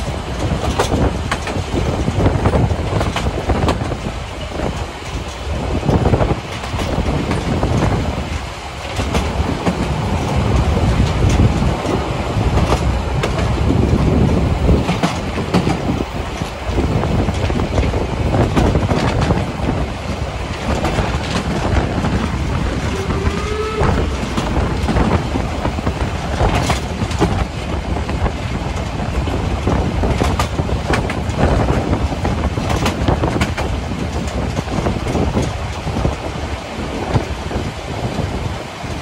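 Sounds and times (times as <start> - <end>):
train rumbling on track: 0.0 - 39.0
wheels clicking over rail joints: 0.0 - 39.0.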